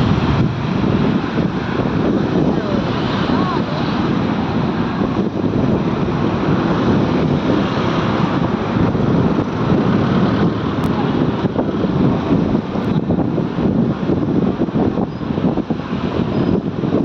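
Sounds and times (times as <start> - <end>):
dense rushing noise: 0.0 - 17.0
speedboat engine running: 0.0 - 17.0.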